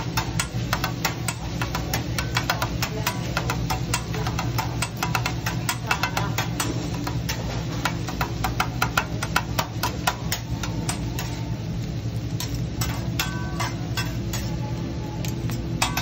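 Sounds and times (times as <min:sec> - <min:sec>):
metal spatula clacking on griddle: 0:00.0 - 0:14.6, 0:15.2 - 0:16.0
steady low hum: 0:00.0 - 0:16.0.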